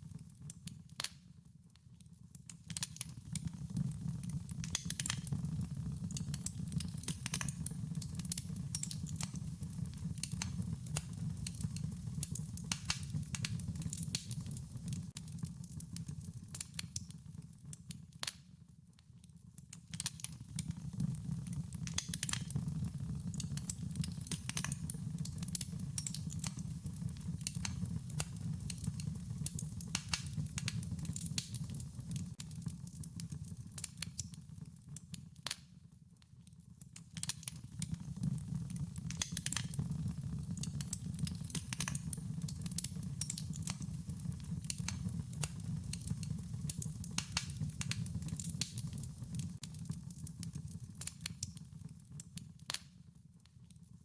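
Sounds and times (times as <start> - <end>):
wood fire crackling: 0.0 - 35.7, 36.6 - 53.0
low rumble of burning: 2.5 - 17.8, 19.7 - 35.1, 36.8 - 52.8.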